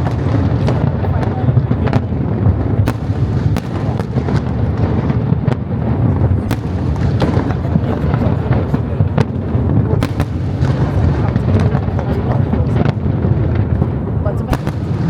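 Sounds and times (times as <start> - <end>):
fireworks rumble and cracks: 0.0 - 15.0.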